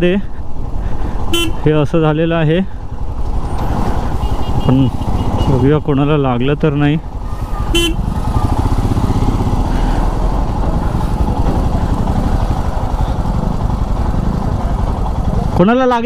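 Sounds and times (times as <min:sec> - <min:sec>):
motorcycle engine at low revs: 0:02.7 - 0:15.9.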